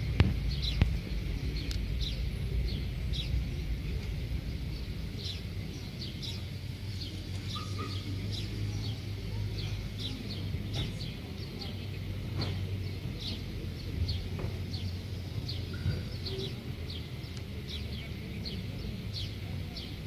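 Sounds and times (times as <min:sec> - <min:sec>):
low steady rumble: 0:00.0 - 0:20.0
small birds chirping: 0:00.0 - 0:20.0.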